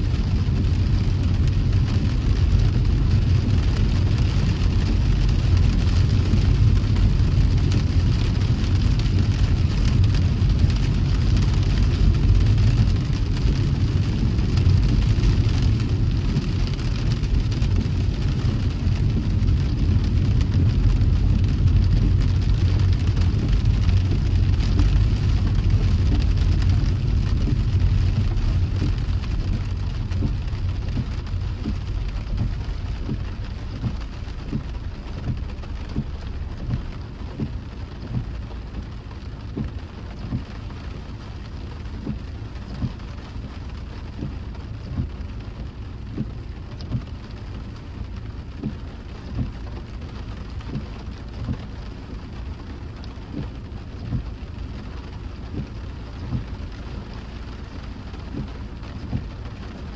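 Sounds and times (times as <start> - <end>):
rain on a car: 0.0 - 59.9
road and engine rumble: 0.0 - 59.9.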